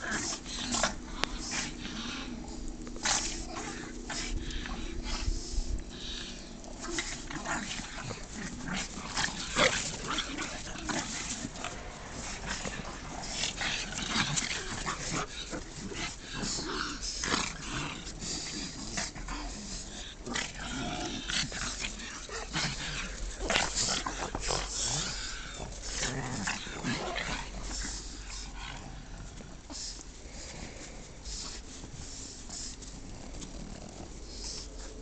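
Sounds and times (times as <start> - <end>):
dogs play growling: 0.0 - 35.0.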